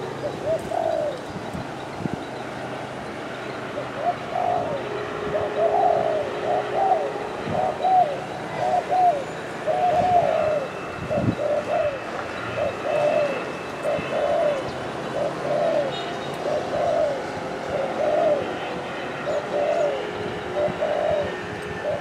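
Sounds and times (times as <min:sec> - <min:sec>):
dove cooing: 0:00.0 - 0:01.6, 0:03.6 - 0:22.0.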